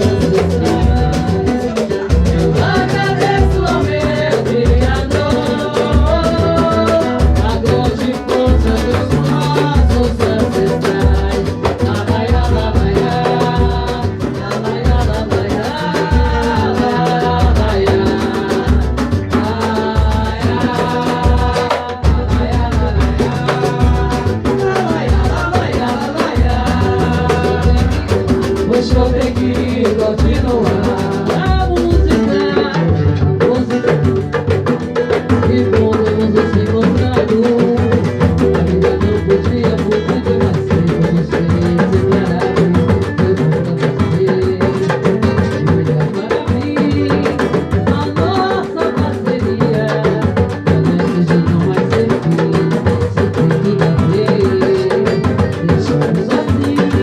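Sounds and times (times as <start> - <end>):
drums playing busy rhythm: 0.0 - 57.0
people singing: 0.0 - 57.0.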